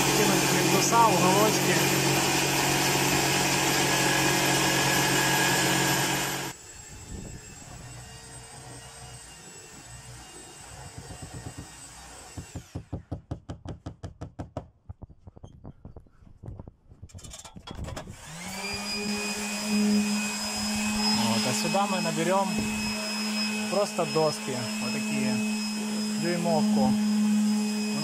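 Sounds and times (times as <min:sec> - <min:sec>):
electric motor drone: 0:00.0 - 0:12.9, 0:18.1 - 0:28.0.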